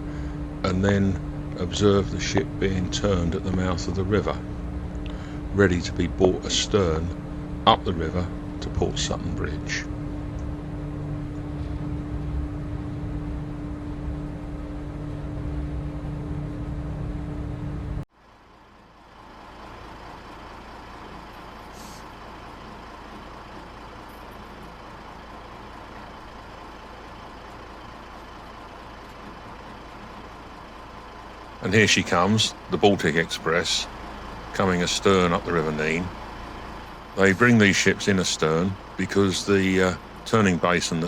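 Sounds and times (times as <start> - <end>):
boat engine droning: 0.0 - 41.0
low rumble and hiss: 0.0 - 41.0.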